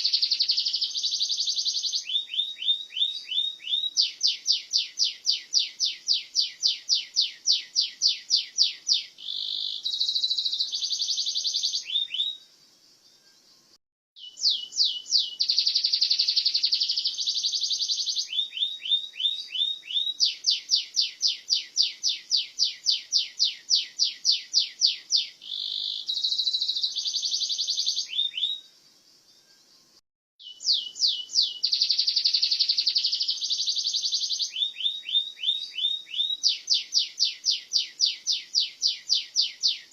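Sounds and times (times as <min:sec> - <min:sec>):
canary singing: 0:00.0 - 0:12.5, 0:14.2 - 0:28.7, 0:30.4 - 0:39.9.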